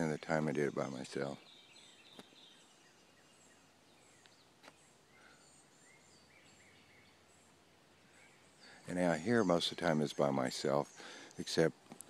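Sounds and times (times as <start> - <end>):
distant songbird chirps: 0.0 - 12.0.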